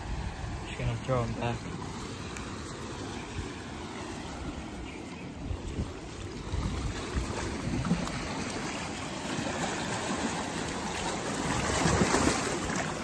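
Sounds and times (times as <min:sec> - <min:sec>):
seawater rushing: 0:00.0 - 0:13.0.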